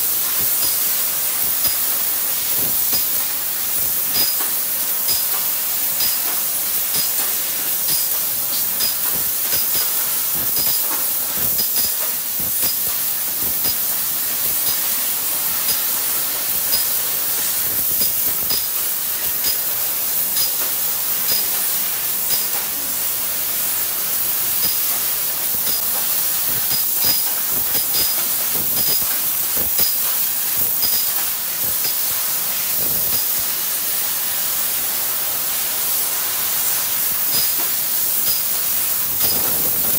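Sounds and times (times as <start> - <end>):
hiss of assist gas: 0.0 - 39.9.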